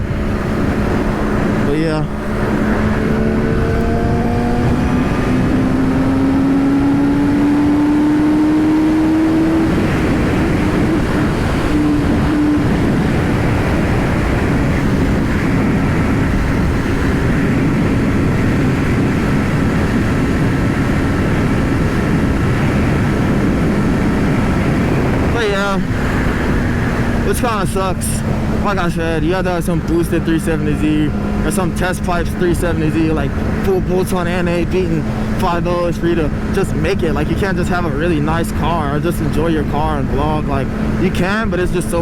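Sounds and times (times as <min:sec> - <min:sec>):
motorcycle engine running: 0:00.0 - 0:42.0
wind noise: 0:00.0 - 0:42.0.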